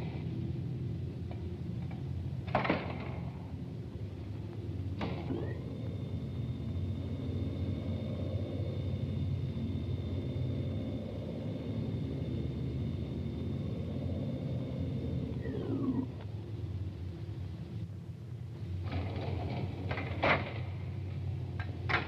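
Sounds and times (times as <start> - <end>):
high steady whine: 0.0 - 22.0
low machine rumble: 0.0 - 22.0.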